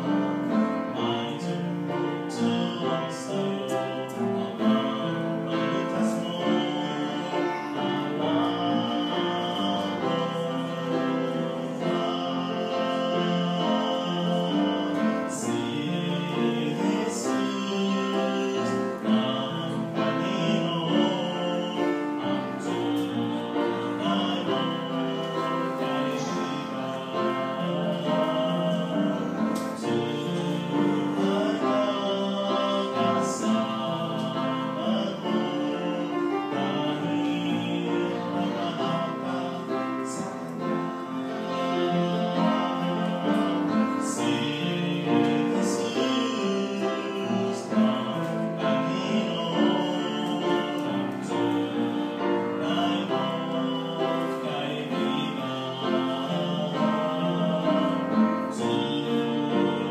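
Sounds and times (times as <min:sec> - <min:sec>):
man singing slow song: 0:00.0 - 0:59.9
upright piano accompaniment: 0:00.0 - 0:59.9.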